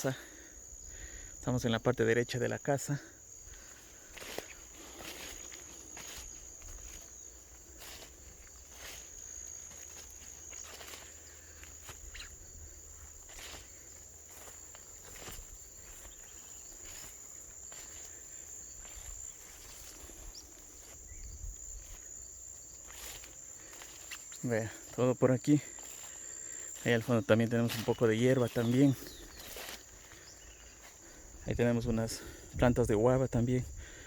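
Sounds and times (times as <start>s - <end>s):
insects trilling: 0.0s - 34.0s
faint footsteps through vegetation: 2.1s - 34.0s.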